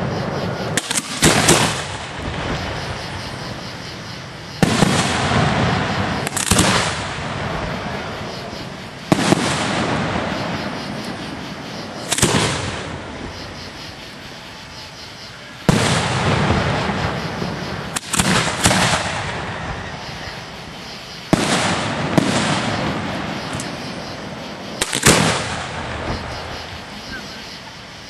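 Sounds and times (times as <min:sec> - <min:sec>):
firework shells exploding: 0:00.0 - 0:13.8, 0:15.6 - 0:26.9.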